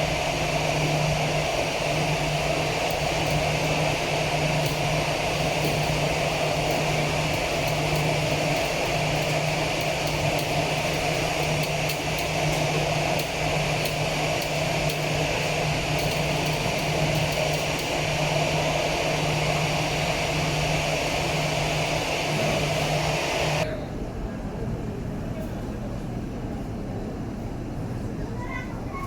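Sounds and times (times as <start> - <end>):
aircraft engines droning: 0.0 - 25.2.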